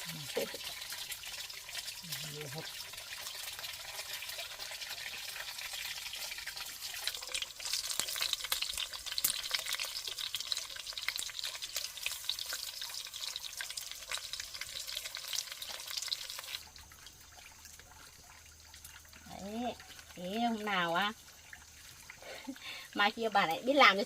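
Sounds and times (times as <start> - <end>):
food frying in hot oil: 0.0 - 24.0.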